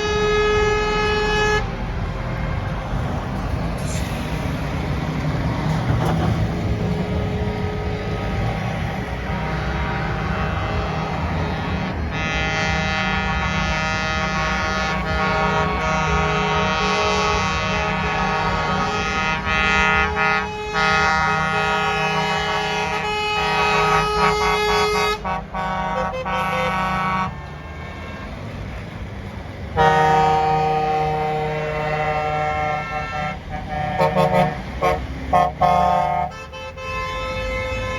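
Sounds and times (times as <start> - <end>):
truck air horns blasting: 0.0 - 2.7, 6.8 - 28.8, 29.7 - 37.9
engine rumble: 0.0 - 37.9.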